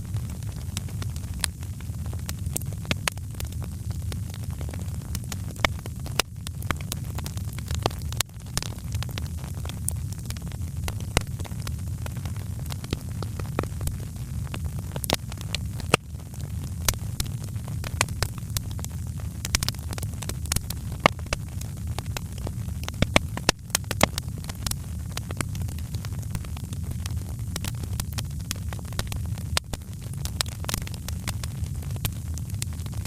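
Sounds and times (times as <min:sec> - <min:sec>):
low steady rumble: 0:00.0 - 0:33.0
wood fire crackling and popping: 0:00.0 - 0:33.0.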